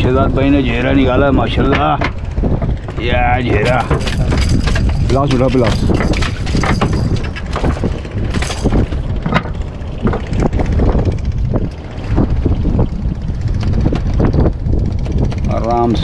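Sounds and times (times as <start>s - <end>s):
diesel boat engine running: 0.0s - 16.0s
short knocks and clatter: 1.6s - 12.4s, 13.6s - 15.8s.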